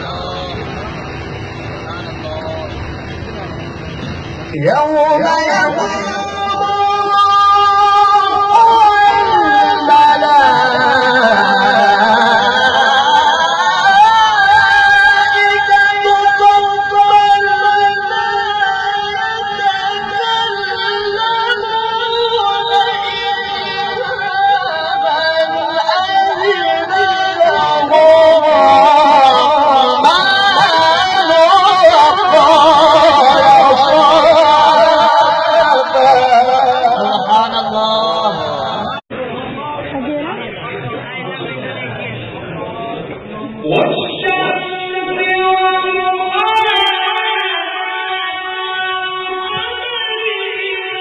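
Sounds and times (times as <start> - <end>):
man reciting melodically: 4.4 - 39.1, 43.6 - 51.0.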